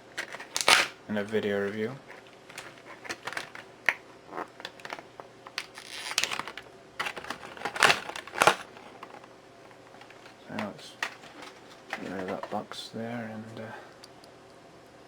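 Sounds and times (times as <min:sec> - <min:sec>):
packaging snaps: 0:00.0 - 0:12.6
toy packaging crinkling: 0:00.0 - 0:12.6.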